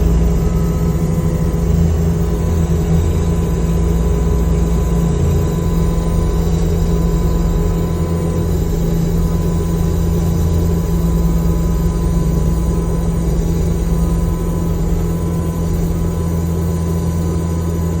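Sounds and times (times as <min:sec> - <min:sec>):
diesel engine running under load: 0:00.0 - 0:18.0.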